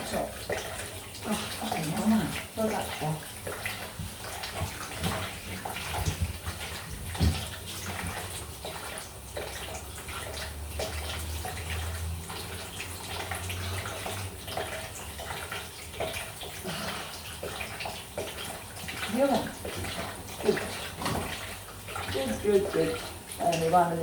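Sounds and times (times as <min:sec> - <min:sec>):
clicks and clatters of plumbing work: 0:00.0 - 0:24.0
water running from a pipe: 0:00.0 - 0:24.0.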